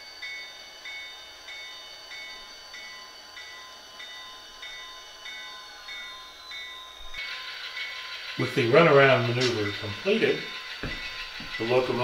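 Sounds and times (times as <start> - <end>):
locomotive bell ringing: 0.0 - 12.0.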